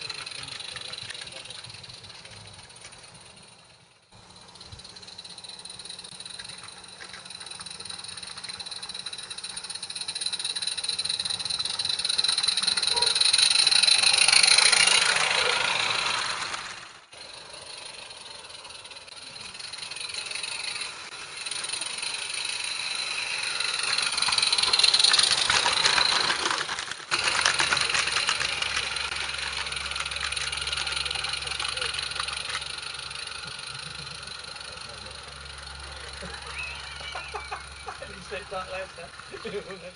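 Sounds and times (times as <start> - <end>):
steam locomotive passing: 0.0 - 39.9
wheels rattling on track: 0.0 - 39.9.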